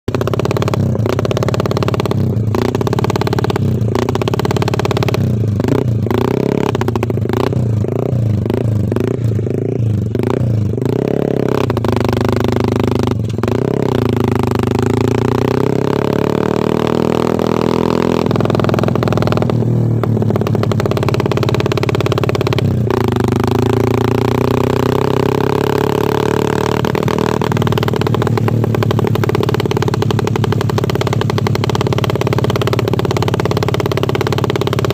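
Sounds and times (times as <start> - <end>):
motorcycle engine chopping throb: 0.1 - 34.9.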